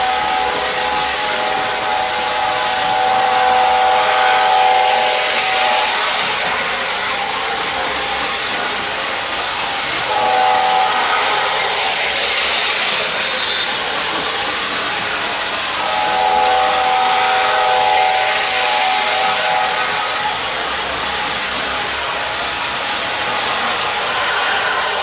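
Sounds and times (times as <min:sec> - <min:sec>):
model train wheels and motors: 0:00.0 - 0:25.0
multi-tone train horn: 0:00.0 - 0:25.0.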